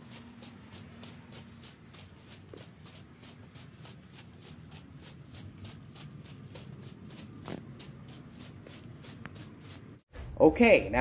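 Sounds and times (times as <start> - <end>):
footsteps on concrete floor: 0.0 - 10.1.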